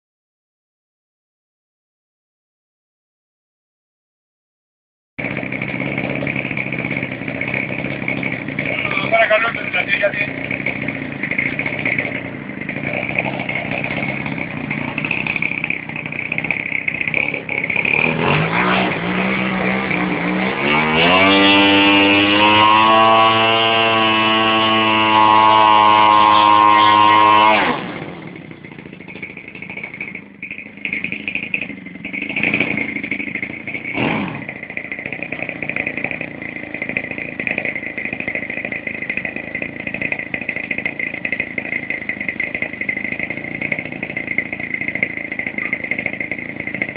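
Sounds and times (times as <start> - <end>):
model airplane engine revving: 5.2 - 46.9.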